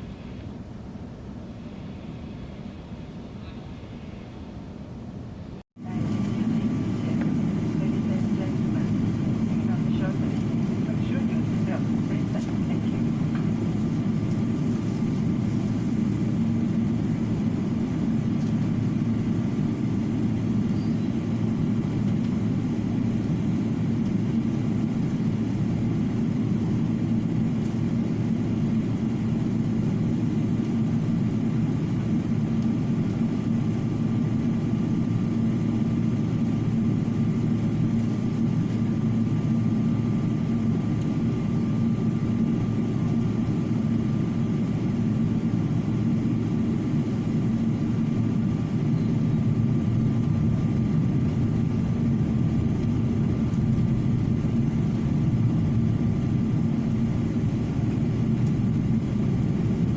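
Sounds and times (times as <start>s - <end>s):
faint steady whine: 0.0s - 59.9s.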